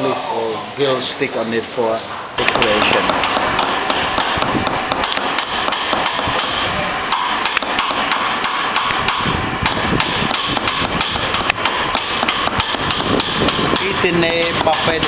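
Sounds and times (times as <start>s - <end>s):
hammer tapping metal punch: 2.4s - 15.0s.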